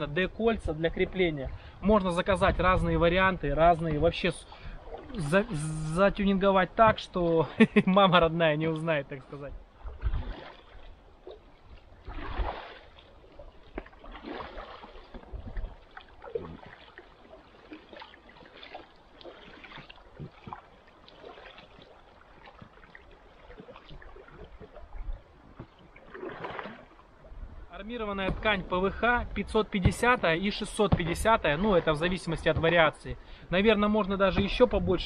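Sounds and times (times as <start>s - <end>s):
distant paddle strokes splashing: 1.6s - 35.0s.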